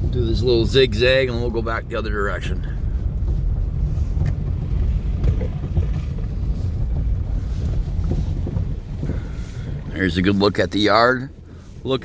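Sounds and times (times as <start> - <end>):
car cabin low rumble: 0.0 - 12.0
wind buffeting microphone: 0.0 - 12.0.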